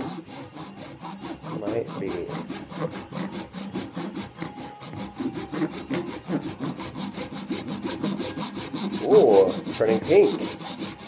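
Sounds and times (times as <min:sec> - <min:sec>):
hand saw rasping: 0:00.0 - 0:11.0.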